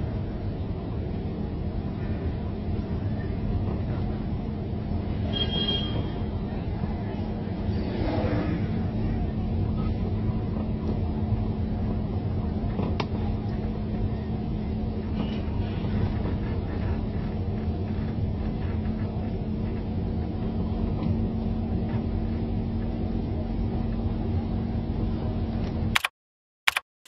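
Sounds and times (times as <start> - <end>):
motor vehicle low rumble: 0.0 - 26.0.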